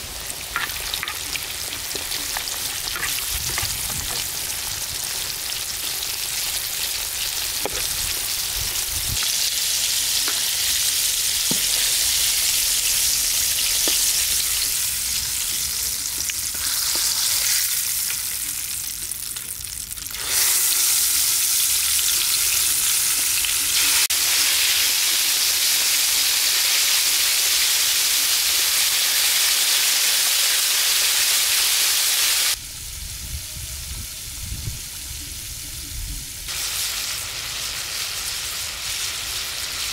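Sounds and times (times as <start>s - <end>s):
oil sizzling: 0.0s - 32.6s, 36.5s - 39.9s.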